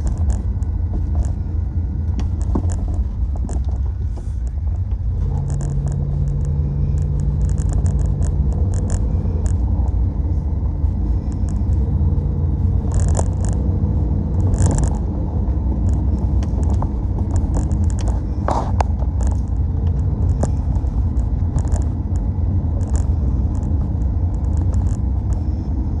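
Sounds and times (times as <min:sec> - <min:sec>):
car engine drone: 0:00.0 - 0:26.0
road rumble: 0:00.0 - 0:26.0.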